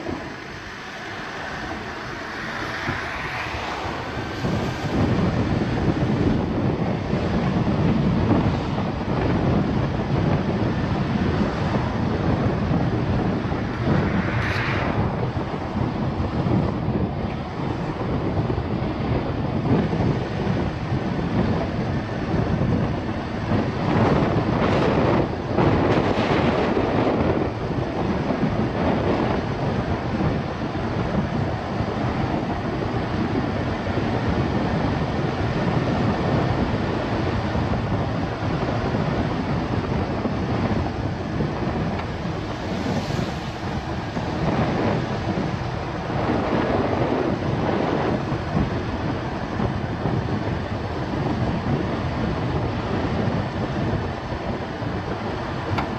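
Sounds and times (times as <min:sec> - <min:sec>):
car road and wind noise: 0:00.0 - 0:55.9.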